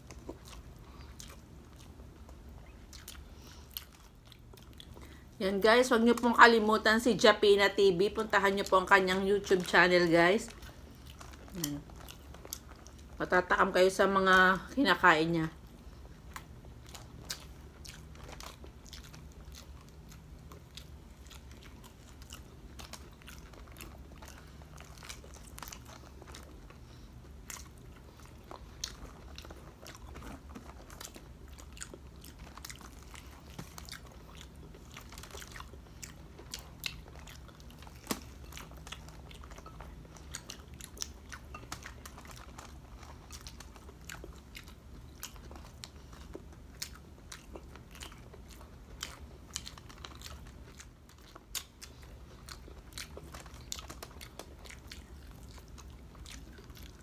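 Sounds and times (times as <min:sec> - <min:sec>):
chewing and crunching food: 0:00.0 - 0:57.0
low steady hum: 0:00.0 - 0:57.0.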